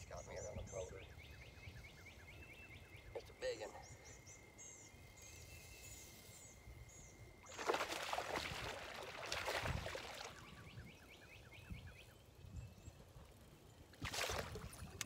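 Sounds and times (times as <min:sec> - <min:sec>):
birds singing: 0:00.0 - 0:07.7, 0:08.4 - 0:13.9.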